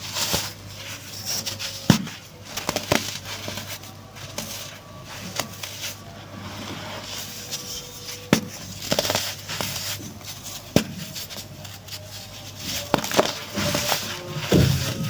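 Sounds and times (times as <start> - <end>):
baking soda crumbling: 0.0 - 15.0.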